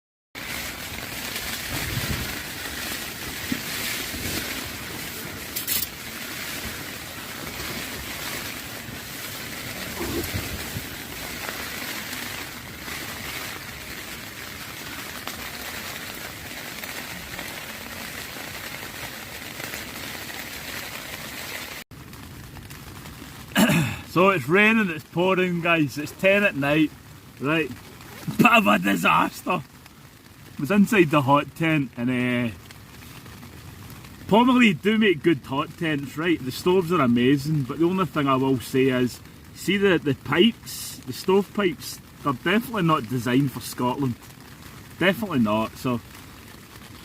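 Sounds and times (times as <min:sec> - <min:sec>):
heavy rain: 0:00.4 - 0:47.0.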